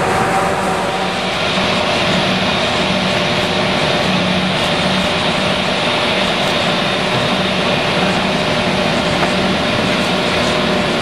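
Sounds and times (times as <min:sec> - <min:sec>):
forage harvester droning: 0:00.0 - 0:11.0.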